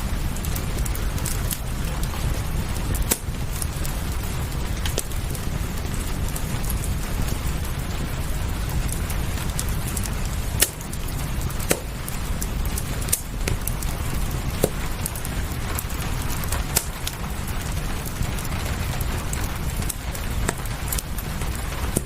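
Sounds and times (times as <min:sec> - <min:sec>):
fireplace crackling and popping: 0:00.0 - 0:22.0
low rumble: 0:00.0 - 0:22.0
rain: 0:00.0 - 0:22.0.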